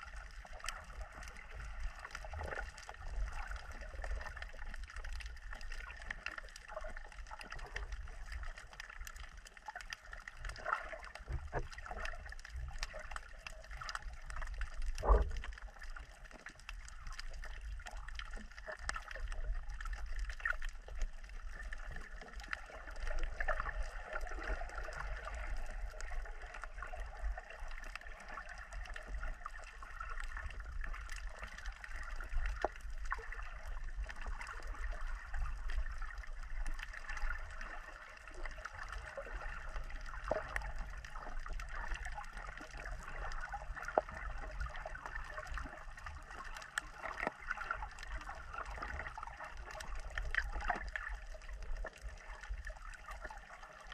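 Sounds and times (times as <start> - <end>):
water gurgling and sloshing: 0.0 - 53.9
small scattered clicks: 0.1 - 53.9.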